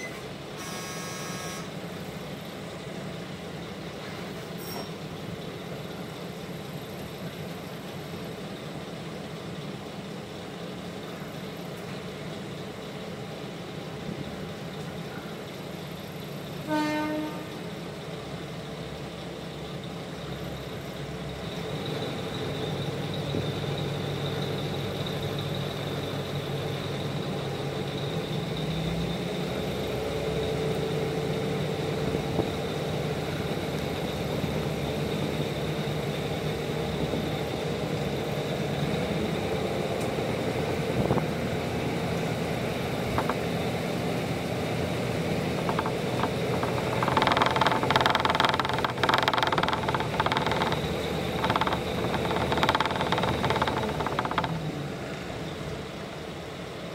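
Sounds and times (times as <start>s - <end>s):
diesel railcar engine running: 0.0s - 56.9s.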